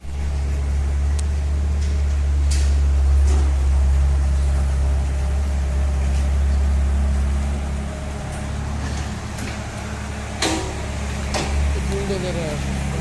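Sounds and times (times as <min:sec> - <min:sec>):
large engine humming: 0:00.0 - 0:13.0.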